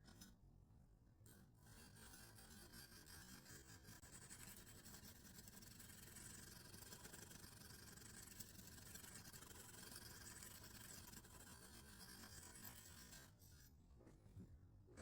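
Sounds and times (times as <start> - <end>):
stone scratching along knife edge: 1.3 - 13.7.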